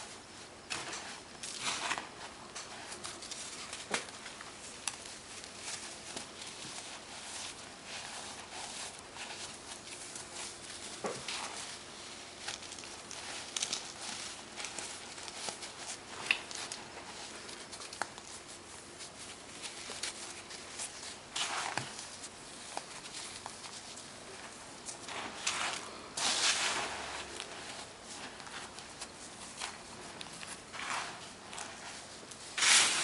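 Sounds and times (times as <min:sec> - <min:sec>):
baking soda chunks crunching: 0:00.6 - 0:33.0.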